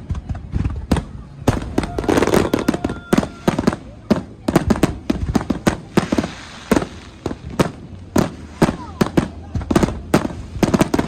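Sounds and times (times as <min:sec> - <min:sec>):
continuous background hiss: 0:00.0 - 0:11.0
fireworks bangs: 0:00.0 - 0:11.0.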